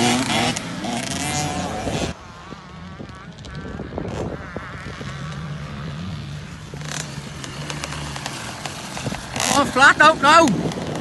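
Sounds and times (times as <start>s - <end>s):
motocross bike engine: 0.0s - 11.0s.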